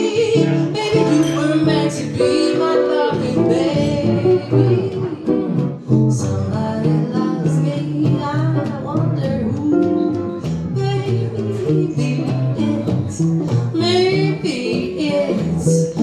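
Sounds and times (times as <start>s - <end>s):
jazz guitar playing: 0.0s - 16.0s
woman singing: 0.0s - 16.0s.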